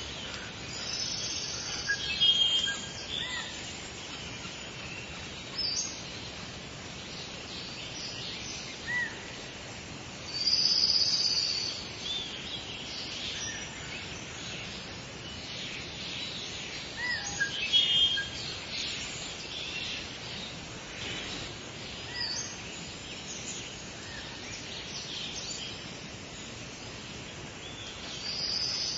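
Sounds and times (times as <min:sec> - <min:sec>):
songbirds chirping and calling: 0:00.0 - 0:28.9
steady outdoor hiss: 0:00.0 - 0:28.9.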